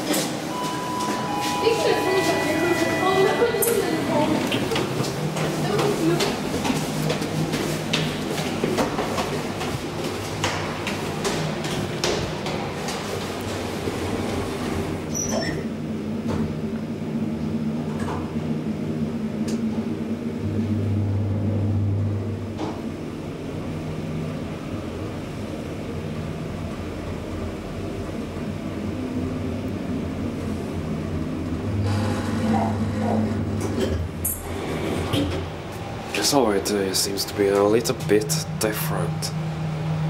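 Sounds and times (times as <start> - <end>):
elevator pump motor humming: 0.0 - 40.0.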